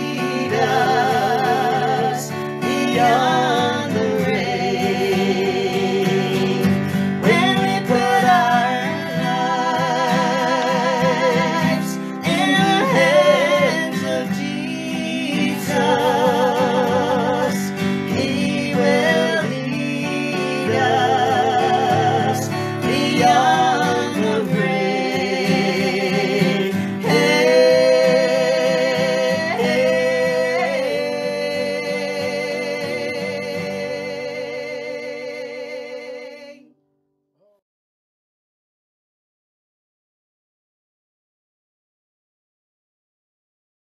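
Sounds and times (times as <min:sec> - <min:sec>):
acoustic guitar strumming: 0:00.0 - 0:36.7
man and woman singing: 0:00.0 - 0:36.7.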